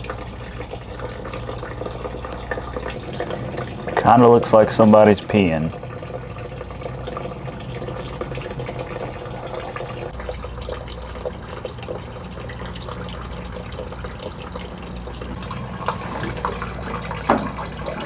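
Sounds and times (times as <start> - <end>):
gasoline pouring and splashing: 0.0 - 18.0.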